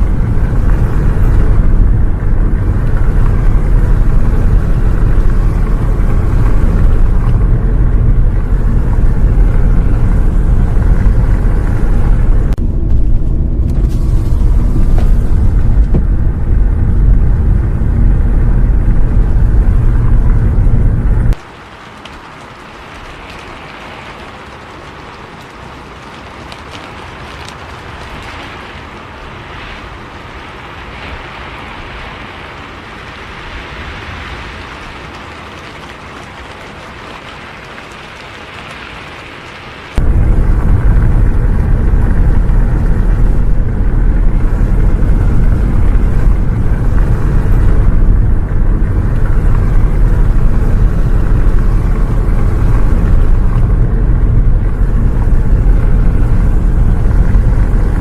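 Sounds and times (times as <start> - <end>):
bus driving in rain: 0.0 - 58.0
rain hiss: 0.0 - 58.0.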